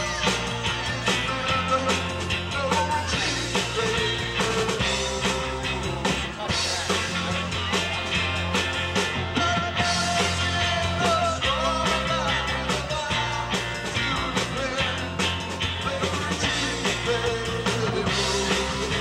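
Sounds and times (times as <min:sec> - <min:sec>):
bass guitar: 0:00.0 - 0:19.0
drum kit: 0:00.0 - 0:19.0
electric guitars: 0:00.0 - 0:19.0.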